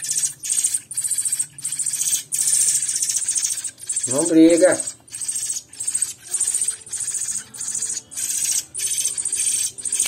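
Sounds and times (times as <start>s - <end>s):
nestlings shrill begging calls: 0.0s - 10.0s.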